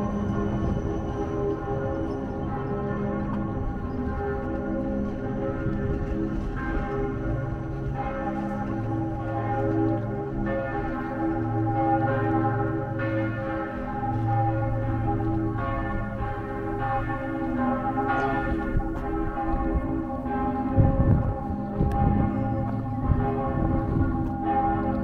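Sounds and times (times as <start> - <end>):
church bells ringing: 0.0 - 25.0.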